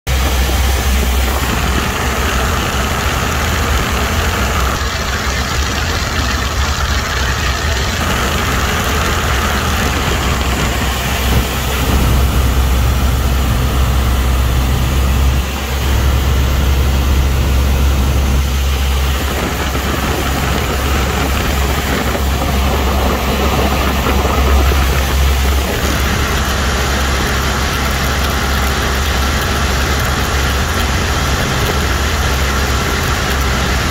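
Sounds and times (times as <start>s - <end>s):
propeller airplane engine droning: 0.1s - 33.9s.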